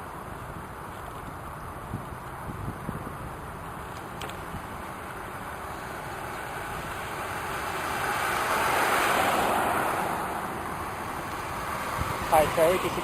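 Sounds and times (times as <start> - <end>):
rushing road noise: 0.0 - 13.0.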